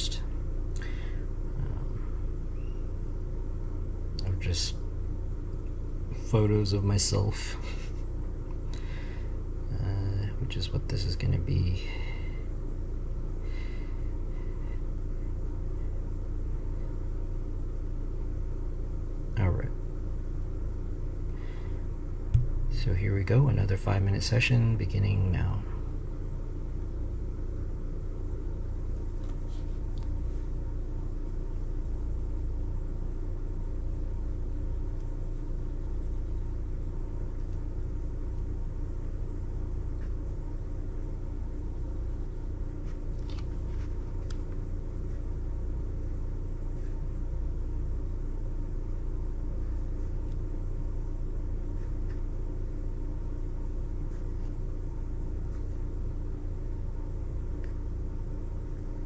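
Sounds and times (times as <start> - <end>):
faint constant hum: 0.0 - 59.0.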